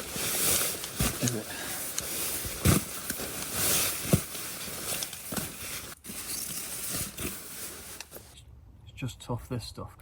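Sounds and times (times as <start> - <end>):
handling rustling: 0.0 - 8.4.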